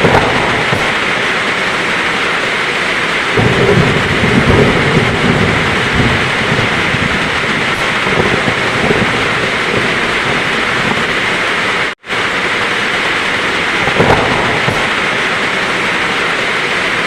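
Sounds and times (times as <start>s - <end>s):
low rumble of thunder: 0.0s - 2.2s, 3.0s - 11.8s, 12.5s - 16.0s
heavy rain falling: 0.0s - 17.0s.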